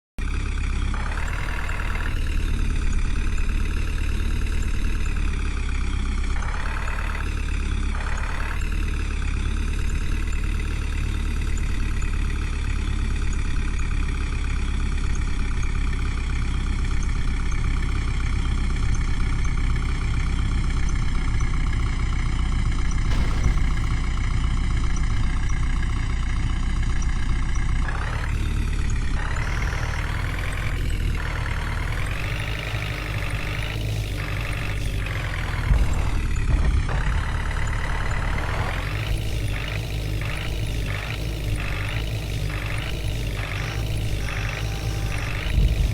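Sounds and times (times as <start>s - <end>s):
diesel engine running: 0.2s - 45.9s.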